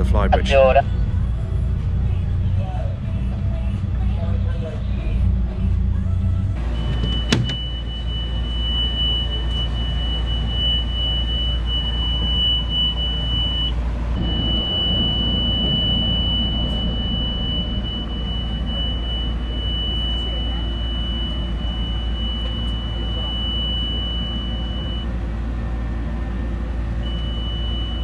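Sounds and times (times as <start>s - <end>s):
continuous high tone: 0.0s - 1.0s, 6.6s - 28.0s
hydraulic motor rumbling: 0.0s - 28.0s.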